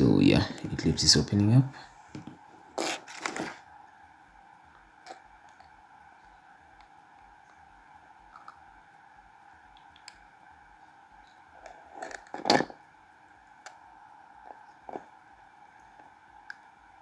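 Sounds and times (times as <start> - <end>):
laptop hum: 0.0 - 17.0.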